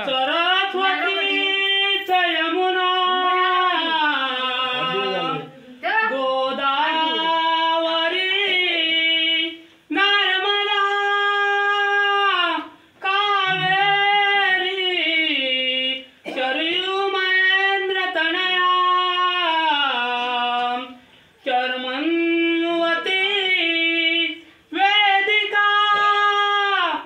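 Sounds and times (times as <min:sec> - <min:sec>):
person singing unaccompanied: 0:00.0 - 0:27.0.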